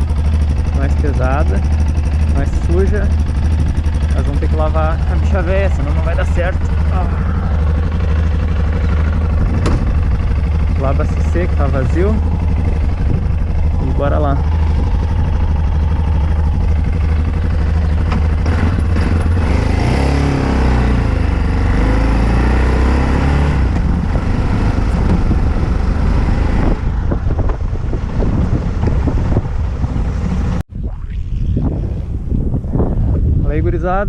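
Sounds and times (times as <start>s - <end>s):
wind noise on microphone: 0.0s - 19.6s, 22.9s - 34.0s
motorcycle engine running: 0.0s - 30.6s.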